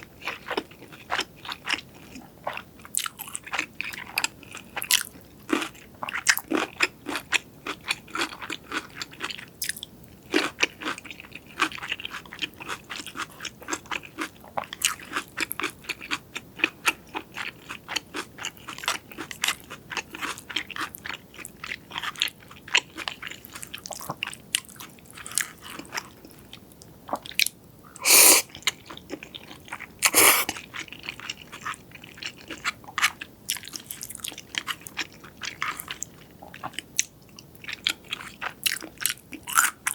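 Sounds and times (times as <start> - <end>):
person chewing crunchy food: 0.2 - 37.0, 37.6 - 39.9.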